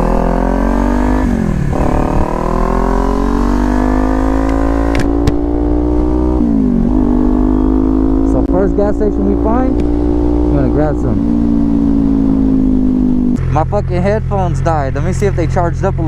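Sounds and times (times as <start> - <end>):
motorcycle engine accelerating: 0.0 - 16.0
wind rumble: 0.0 - 16.0.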